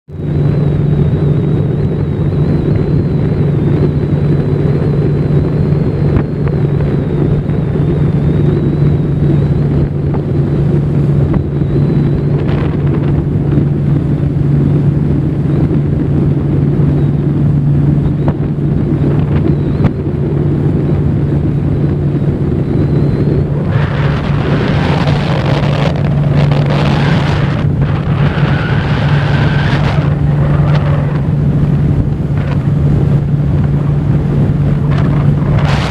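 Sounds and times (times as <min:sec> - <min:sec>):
boat motor humming: 0:00.1 - 0:35.9
wind buffeting microphone: 0:00.1 - 0:35.9.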